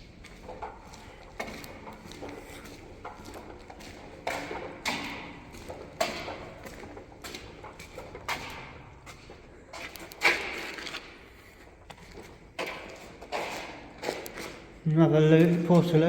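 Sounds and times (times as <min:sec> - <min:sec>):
footsteps on wooden floor: 0:00.0 - 0:16.0.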